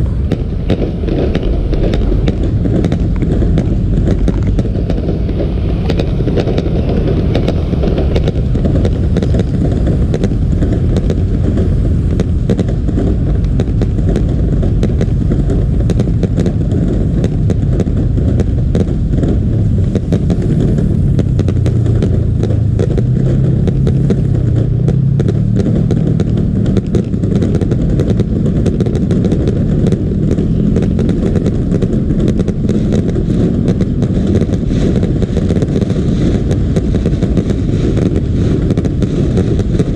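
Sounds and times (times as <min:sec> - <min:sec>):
low drone rising in pitch: 0:00.0 - 0:35.2
fireworks crackling: 0:00.0 - 0:39.9
low rumble: 0:00.0 - 0:39.9.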